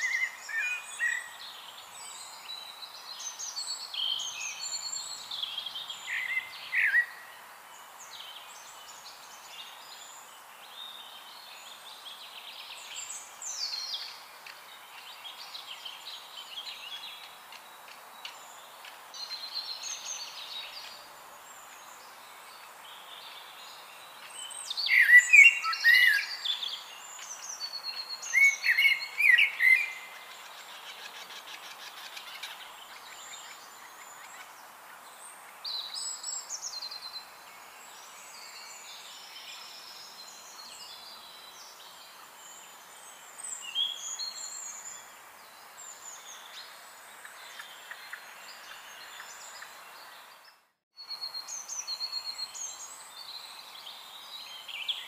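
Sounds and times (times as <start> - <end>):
birds singing and chirping: 0.0 - 7.4, 8.0 - 55.0
steady outdoor hiss: 0.0 - 55.0.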